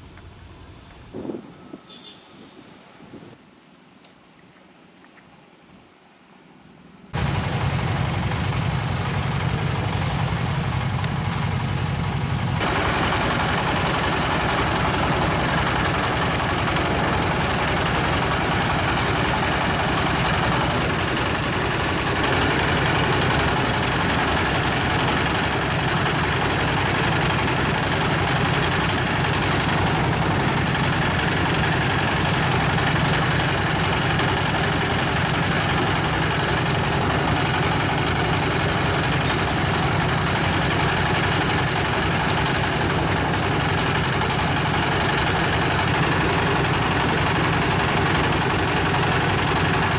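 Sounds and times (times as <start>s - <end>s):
small engine pulsing hum: 7.1s - 49.9s
rushing mechanical noise: 7.2s - 49.9s.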